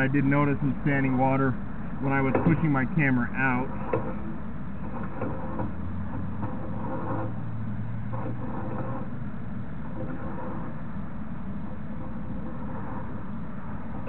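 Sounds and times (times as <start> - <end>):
low mechanical hum: 0.0 - 14.0
noisy background: 0.0 - 14.0.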